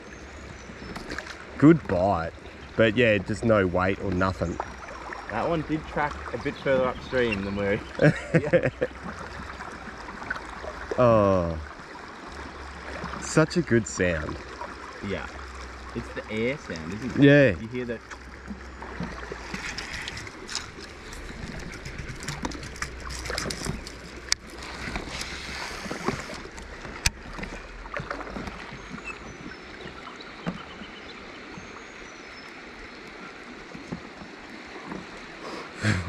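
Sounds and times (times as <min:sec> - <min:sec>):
river water lapping: 0:00.0 - 0:36.0.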